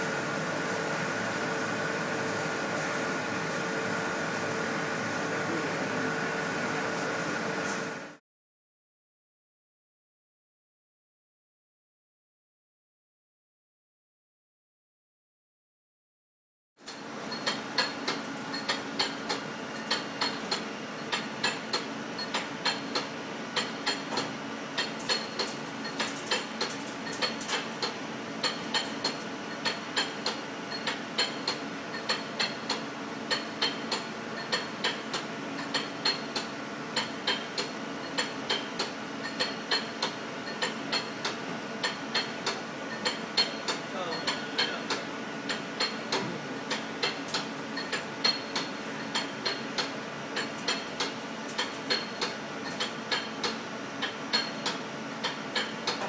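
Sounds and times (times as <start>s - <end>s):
lathe mechanical hum: 0.0s - 8.2s, 16.9s - 56.0s.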